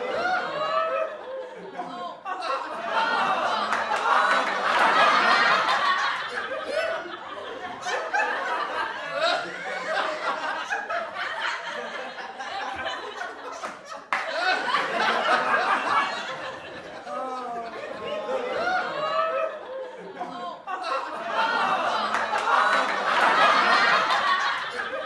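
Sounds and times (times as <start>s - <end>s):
group of people laughing: 0.0s - 25.0s
people chattering: 0.0s - 25.0s.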